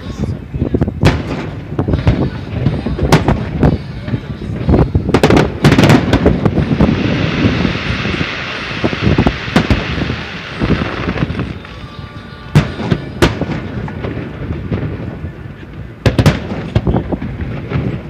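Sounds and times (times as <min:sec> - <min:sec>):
fireworks crackling: 0:00.0 - 0:18.0
fireworks bangs: 0:01.0 - 0:18.0.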